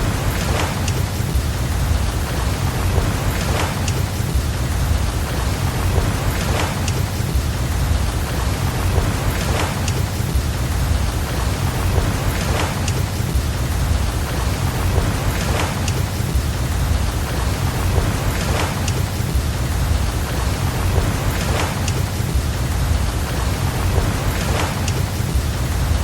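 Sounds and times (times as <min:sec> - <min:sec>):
deep continuous rumble: 0:00.0 - 0:26.0
fire crackle: 0:00.0 - 0:26.0
steady rain: 0:00.0 - 0:26.0.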